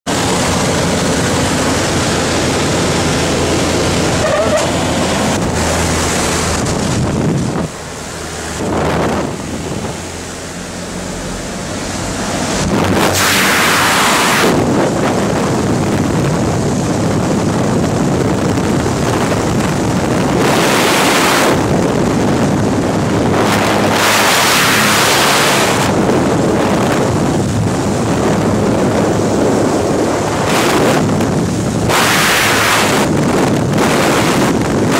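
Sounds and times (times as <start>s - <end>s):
small plane engine running: 0.1s - 34.9s
wind gusts on microphone: 0.1s - 34.9s
wind rushing: 0.1s - 34.9s.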